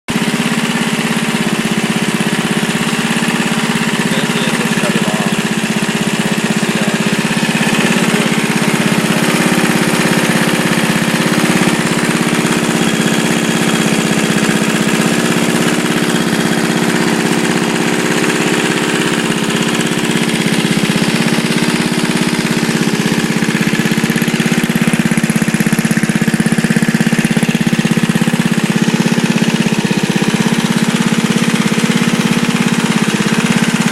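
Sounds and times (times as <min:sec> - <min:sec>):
lawnmower engine running: 0:00.1 - 0:33.9.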